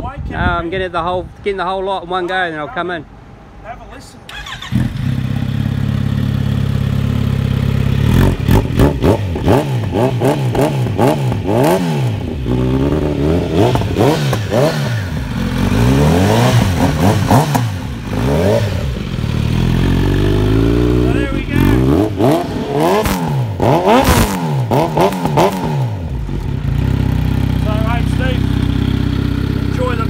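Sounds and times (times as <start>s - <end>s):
motorcycle engine idling and revving: 4.3s - 30.0s.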